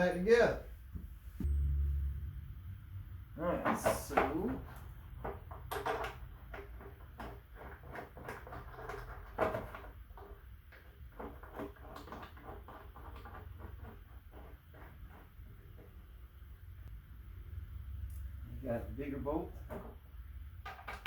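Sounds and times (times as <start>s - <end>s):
low steady hum: 0.0s - 9.1s, 12.7s - 20.9s.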